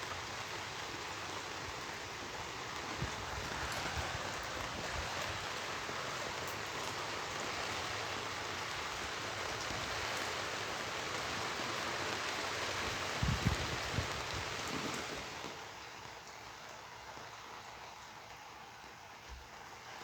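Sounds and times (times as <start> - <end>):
heavy rain in strong wind: 0.0 - 20.0.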